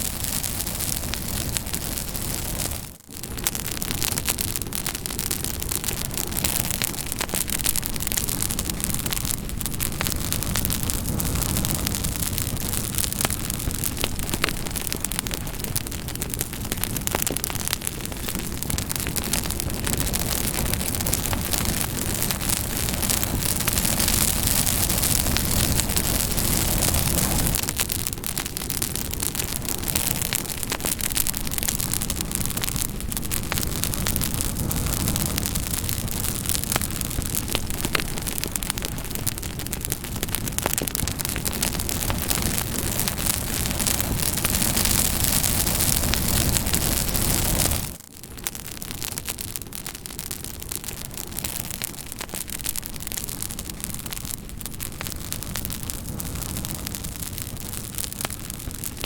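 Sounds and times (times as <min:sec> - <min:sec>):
campfire hissing and crackling: 0:00.0 - 0:59.0.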